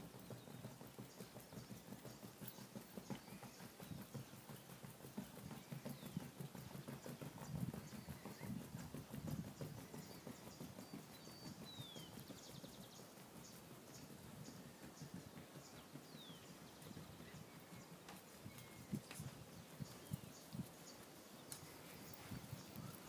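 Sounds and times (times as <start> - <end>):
horse hoofbeats on grass: 0.0 - 23.0.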